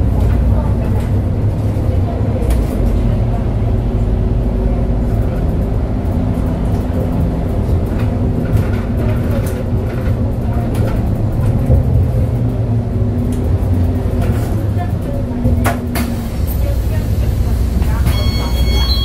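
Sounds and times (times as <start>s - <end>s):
bus drivetrain drone: 0.0s - 19.0s.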